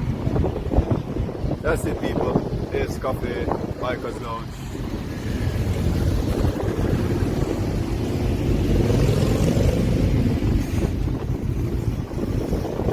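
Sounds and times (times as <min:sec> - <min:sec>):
road traffic rumble: 0:00.0 - 0:12.9
wind buffeting microphone: 0:00.0 - 0:12.9.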